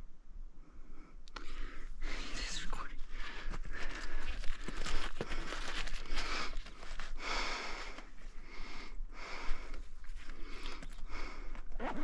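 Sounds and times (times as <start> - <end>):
person breathing hard: 0.6 - 11.8.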